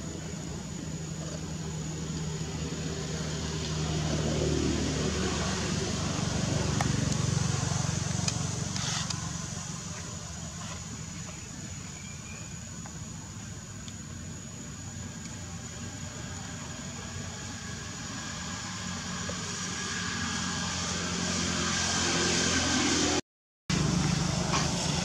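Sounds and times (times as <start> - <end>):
vehicle engine rumble passing: 0.0 - 12.0, 14.2 - 25.0.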